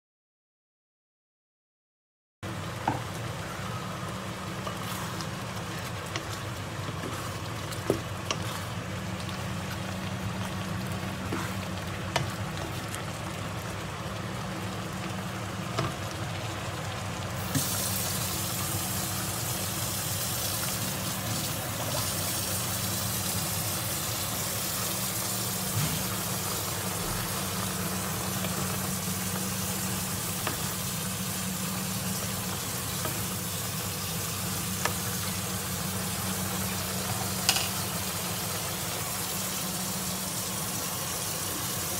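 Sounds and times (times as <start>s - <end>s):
noodles boiling in water: 2.4s - 41.9s
sauce sizzling in a frying pan: 2.5s - 41.9s.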